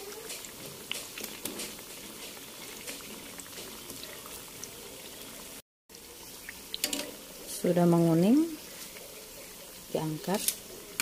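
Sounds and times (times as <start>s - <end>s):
hot oil bubbling and crackling: 0.0s - 11.0s.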